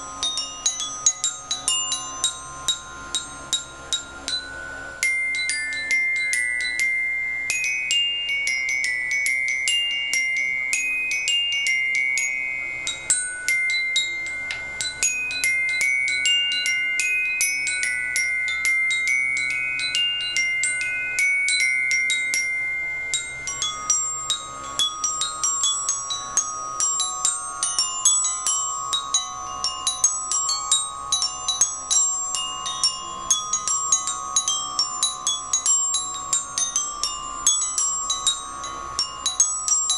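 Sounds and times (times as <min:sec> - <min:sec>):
glockenspiel melody: 0:00.0 - 0:39.9.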